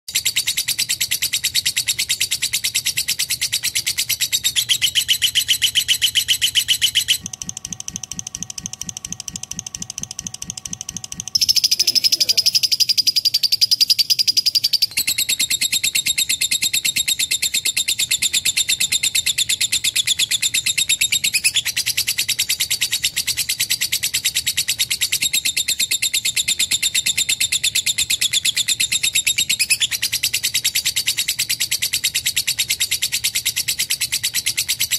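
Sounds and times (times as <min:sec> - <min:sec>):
bird chattering trill: 0:00.1 - 0:34.9.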